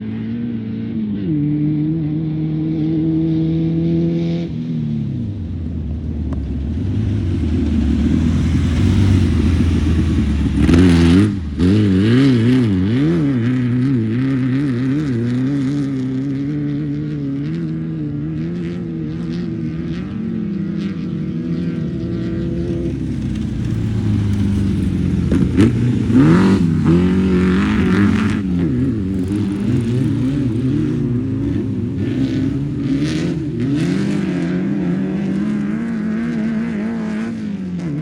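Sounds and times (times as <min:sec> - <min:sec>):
race vehicle engine revving: 0:06.8 - 0:38.0.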